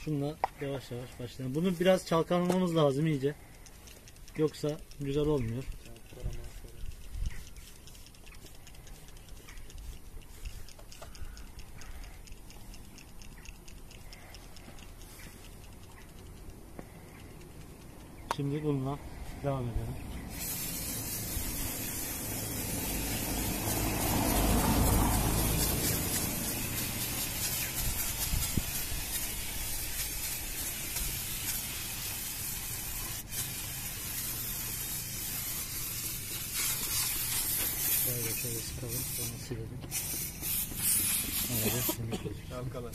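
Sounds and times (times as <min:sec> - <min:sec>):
aerosol can ball rattling: 0:01.4 - 0:18.8, 0:20.3 - 0:42.1.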